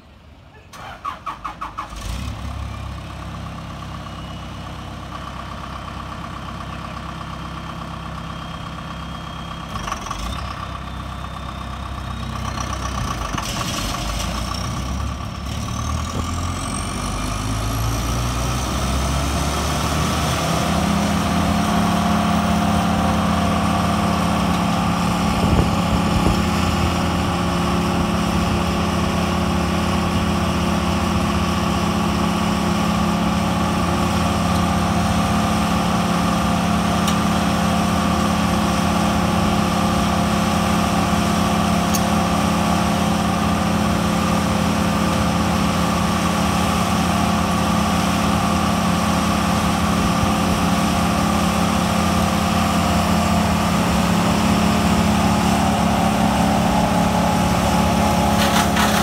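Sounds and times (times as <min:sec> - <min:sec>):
wood chipper diesel engine: 0:00.0 - 0:59.0.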